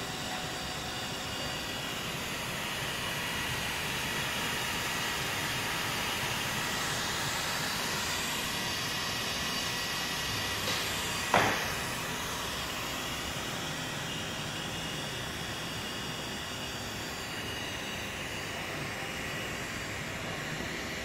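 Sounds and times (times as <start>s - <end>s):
hot-air blower rushing: 0.0s - 21.0s.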